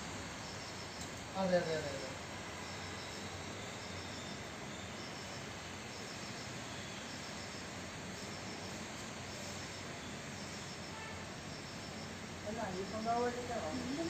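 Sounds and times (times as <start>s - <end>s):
background hiss: 0.0s - 14.0s
insects chirping: 0.3s - 14.0s.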